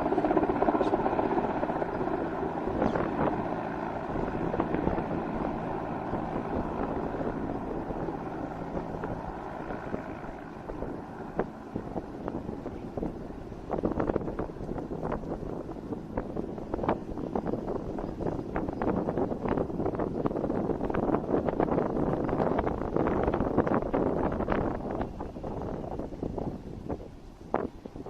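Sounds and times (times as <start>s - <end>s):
helicopter engines and rotor: 0.0s - 28.0s.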